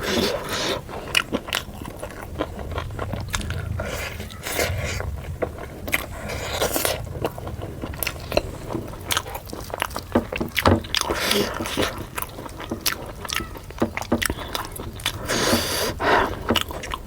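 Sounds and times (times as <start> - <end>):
chewing and biting food: 0.0 - 17.0
scraping: 0.0 - 17.0.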